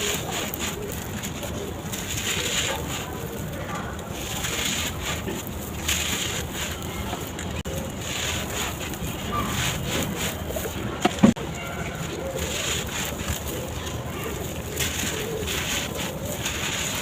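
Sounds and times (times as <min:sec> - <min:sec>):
gritty crunching of crumbling bars: 0:00.0 - 0:17.0.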